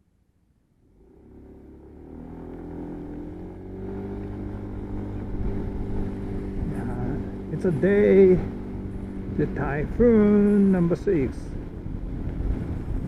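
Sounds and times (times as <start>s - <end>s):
motorbike engine running: 0.8s - 13.0s.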